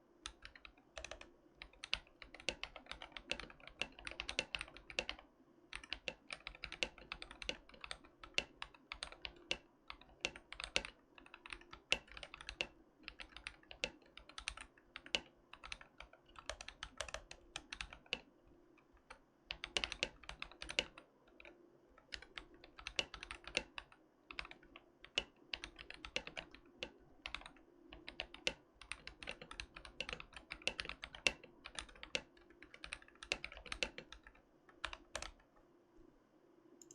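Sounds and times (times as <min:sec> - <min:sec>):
fast typing on mechanical keyboard: 0:00.2 - 0:18.3, 0:18.9 - 0:35.5.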